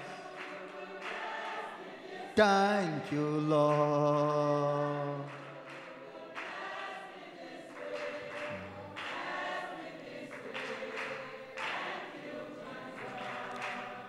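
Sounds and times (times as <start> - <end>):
congregation singing a gospel song: 0.0 - 14.0.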